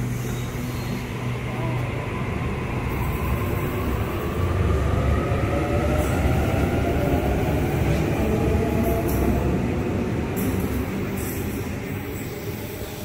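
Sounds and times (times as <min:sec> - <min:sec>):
electric train rumble: 0:00.0 - 0:13.0.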